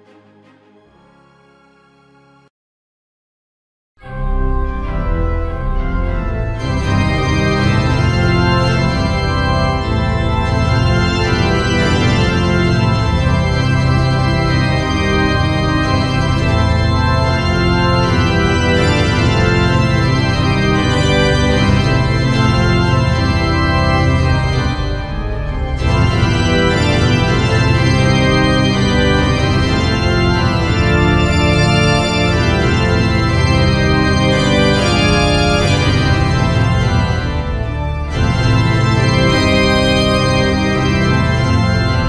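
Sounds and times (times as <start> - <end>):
organ chords: 0.8 - 2.5, 4.0 - 42.0.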